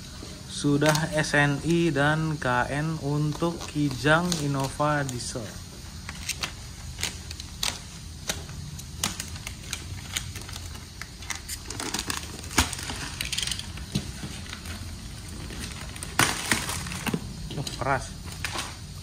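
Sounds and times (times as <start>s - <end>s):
plastic wrap crinkling and tearing: 0.0s - 19.0s.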